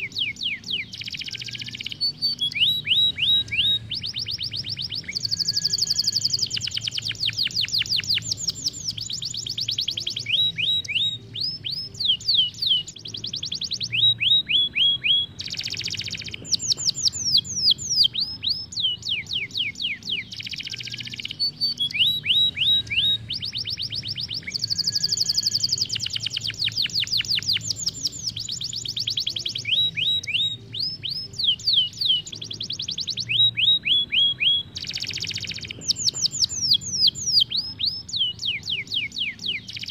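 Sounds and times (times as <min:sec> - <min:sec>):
canary singing trills: 0:00.0 - 0:39.9
harsh buzzy bird calls: 0:00.0 - 0:39.9.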